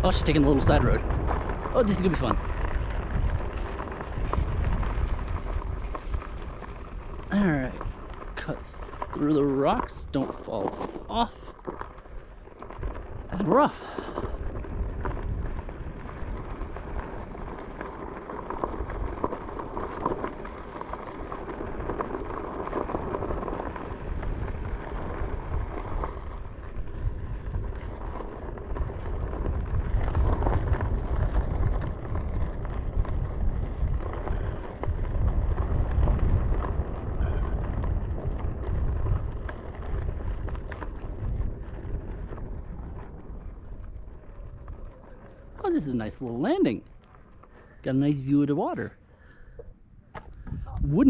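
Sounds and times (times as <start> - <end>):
tyres rolling on dirt trail: 0.0 - 51.0
wind buffeting microphone: 0.0 - 51.0.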